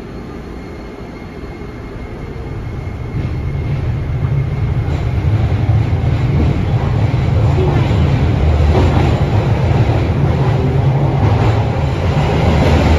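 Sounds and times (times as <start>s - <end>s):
low train running rumble: 0.0s - 12.9s.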